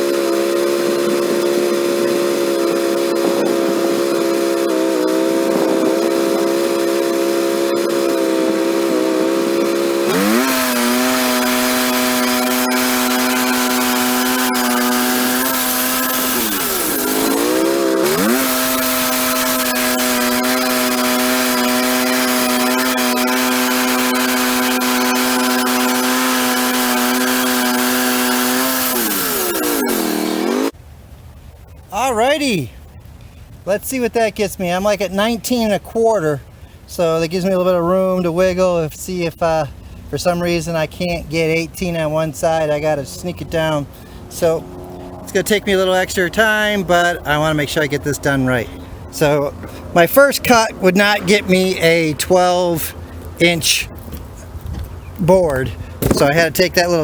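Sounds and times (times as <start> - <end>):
engine running: 0.0 - 35.5, 36.4 - 57.0.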